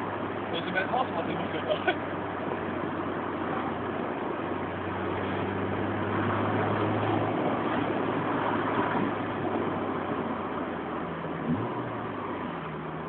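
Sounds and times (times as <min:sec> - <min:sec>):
car engine droning: 0:00.0 - 0:13.0
road and tyre noise: 0:00.0 - 0:13.0.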